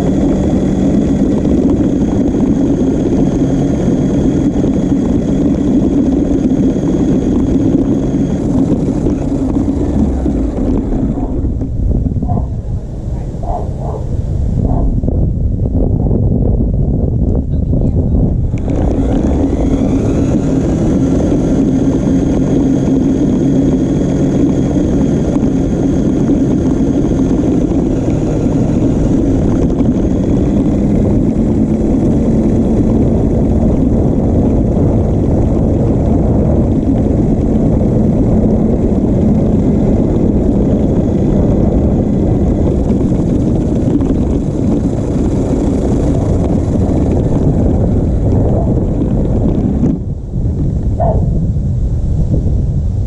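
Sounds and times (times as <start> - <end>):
wheels rumbling: 0.0 - 53.0
wind: 0.0 - 53.0.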